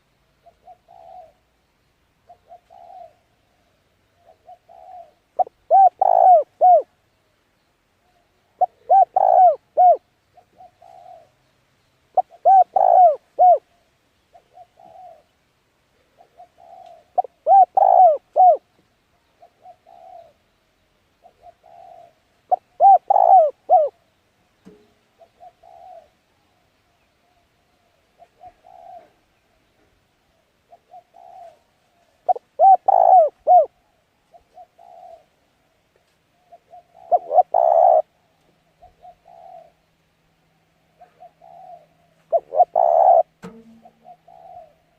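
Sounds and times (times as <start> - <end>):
dove cooing: 0.0 - 1.5, 2.2 - 7.0, 8.0 - 11.4, 12.1 - 15.4, 16.0 - 18.7, 19.3 - 20.5, 21.2 - 24.1, 25.2 - 26.6, 27.2 - 35.6, 36.3 - 40.0, 40.8 - 44.9.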